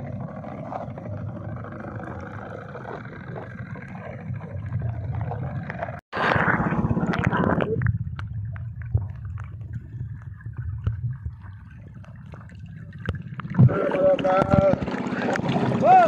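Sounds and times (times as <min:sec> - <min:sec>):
muffled underwater boat engine rumble: 0:00.0 - 0:16.0
water splashing against hull: 0:00.0 - 0:16.0.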